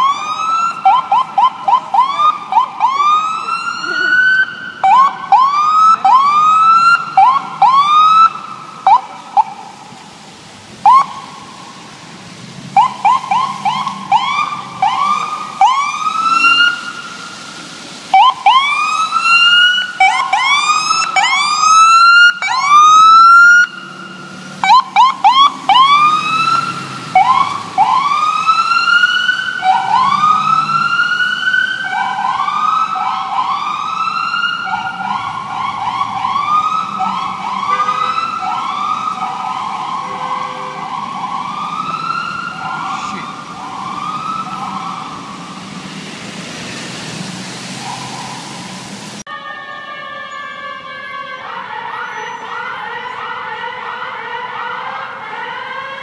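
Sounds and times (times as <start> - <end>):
electronic sirens whooping: 0.0 - 9.8, 10.8 - 11.4, 12.8 - 17.4, 18.1 - 46.0, 47.6 - 56.0.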